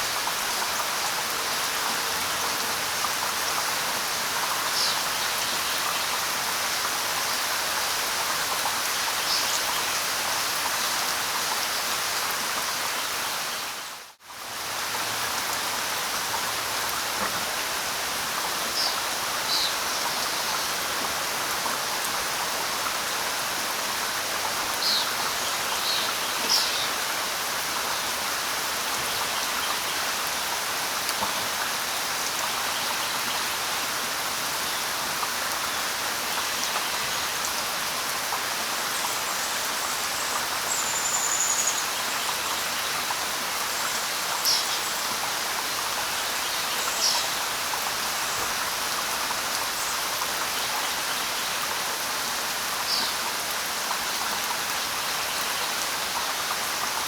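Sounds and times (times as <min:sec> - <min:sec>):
light rain: 0:00.0 - 0:57.0.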